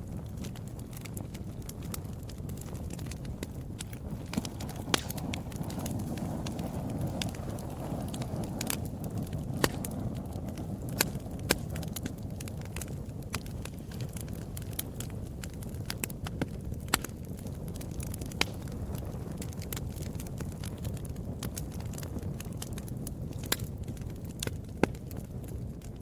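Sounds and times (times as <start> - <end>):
fire crackling in a fireplace: 0.0 - 26.0.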